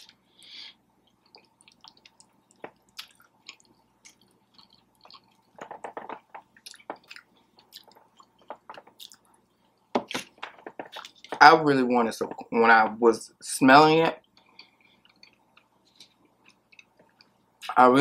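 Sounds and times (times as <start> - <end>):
person chewing food: 0.0 - 11.4, 14.2 - 17.8.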